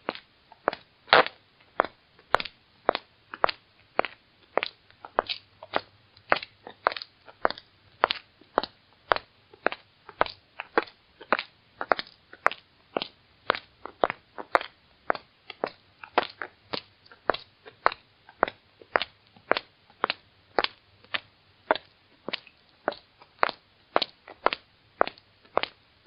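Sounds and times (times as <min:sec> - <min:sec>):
high heels clicking on hard floor: 0:00.0 - 0:25.8.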